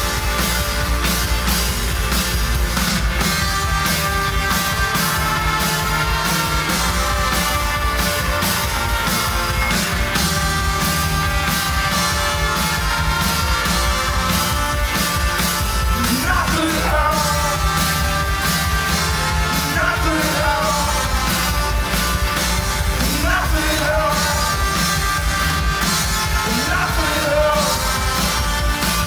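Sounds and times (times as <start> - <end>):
rock song with vocals: 0.0 - 29.0.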